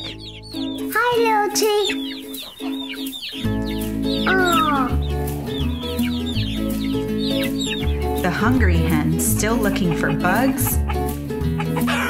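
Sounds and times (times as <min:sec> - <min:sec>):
background music with bass: 0:00.0 - 0:01.0, 0:02.0 - 0:12.0
baby chick peeping: 0:00.0 - 0:12.0.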